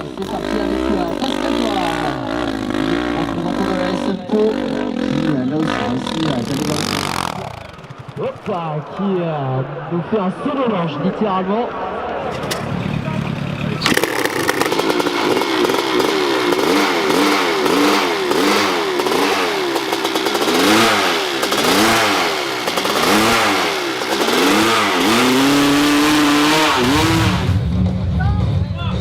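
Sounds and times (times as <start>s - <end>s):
motorcycle engine revving: 0.0s - 9.8s, 12.1s - 28.8s.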